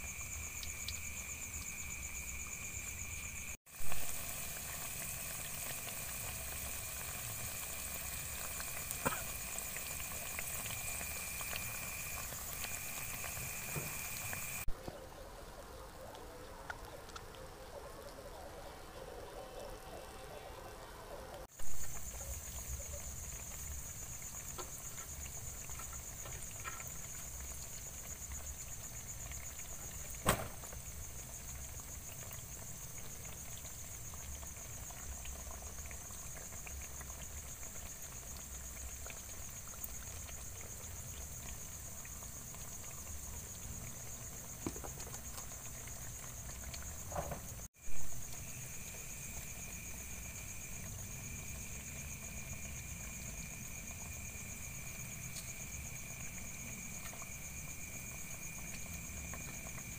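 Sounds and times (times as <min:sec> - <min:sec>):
lower insect trill: 0:00.0 - 0:14.7, 0:17.7 - 0:59.9
insects chirring: 0:00.0 - 0:59.9.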